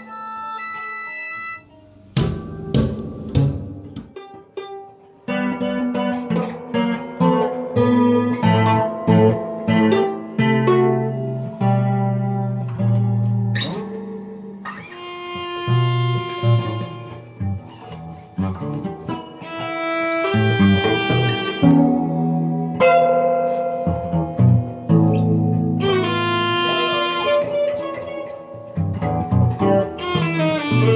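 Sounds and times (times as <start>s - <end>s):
violin: 0.0s - 22.9s, 24.5s - 30.9s
acoustic guitar plucking: 0.0s - 30.9s.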